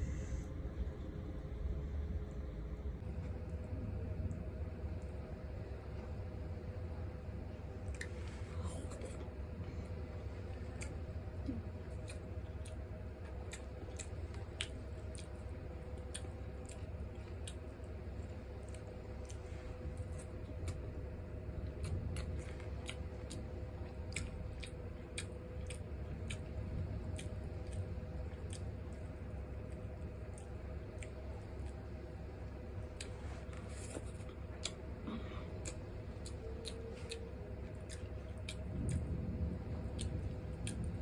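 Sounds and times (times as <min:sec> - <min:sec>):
steady low hum: 0:00.0 - 0:41.0
wet chewing sounds: 0:07.6 - 0:41.0.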